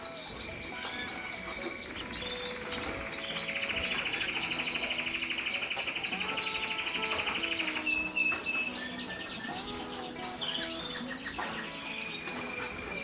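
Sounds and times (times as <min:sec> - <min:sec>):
canaries chirping: 0:00.0 - 0:13.0
canary singing trill: 0:00.0 - 0:13.0.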